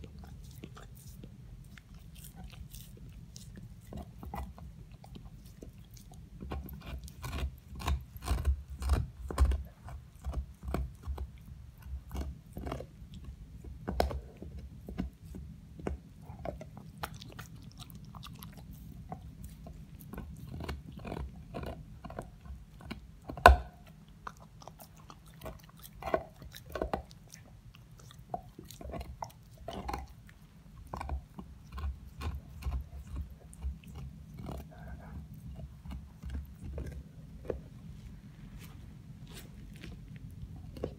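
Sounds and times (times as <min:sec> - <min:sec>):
dog gnawing on a bone: 0:00.0 - 0:40.9.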